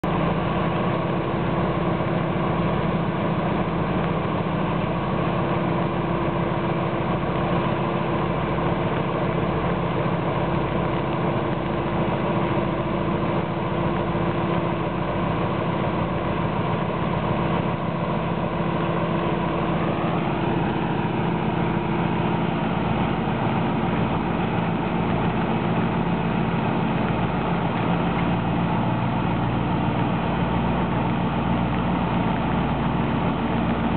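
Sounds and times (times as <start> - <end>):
diesel locomotive idling: 0.0 - 33.9.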